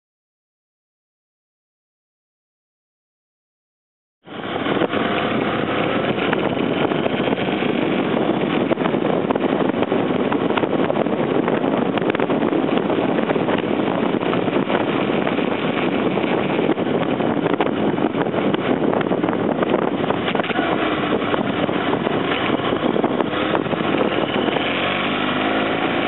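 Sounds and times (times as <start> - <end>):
motorcycle engine running: 4.2 - 26.0
wind noise: 4.2 - 26.0.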